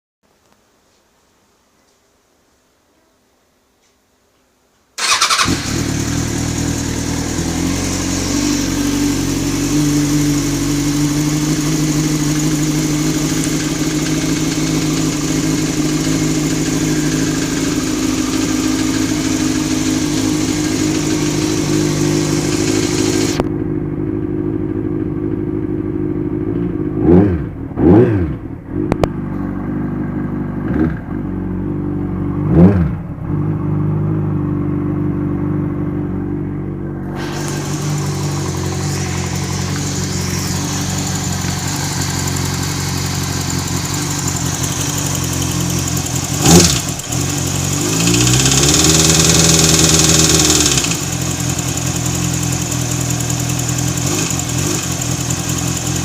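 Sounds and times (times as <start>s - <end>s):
motorcycle engine idling and revving: 5.0s - 56.0s.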